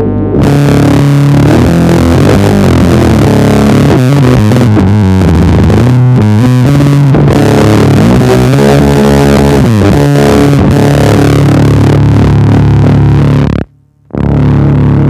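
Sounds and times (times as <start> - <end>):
distorted electric bass riff: 0.0 - 15.0.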